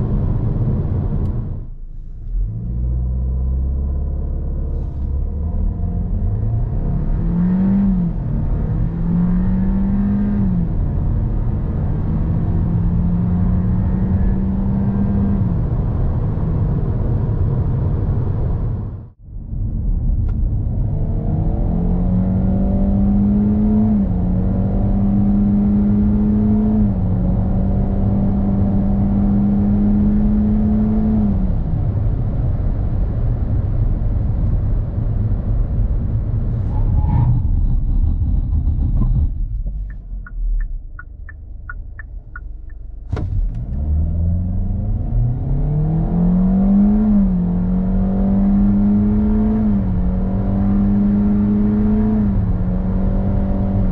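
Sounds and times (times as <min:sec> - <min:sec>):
car engine accelerating hard: 0:00.0 - 0:18.9, 0:20.7 - 0:37.2, 0:40.6 - 0:53.9.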